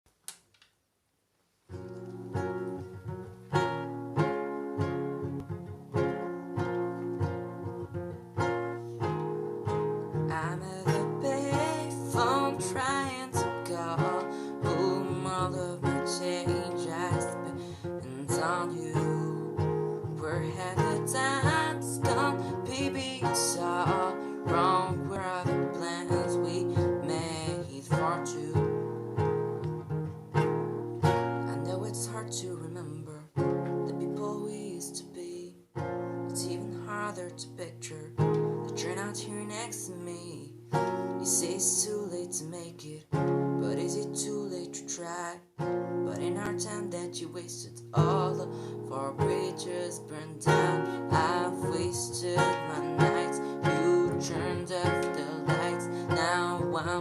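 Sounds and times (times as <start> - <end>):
acoustic guitar strumming: 1.7 - 57.0.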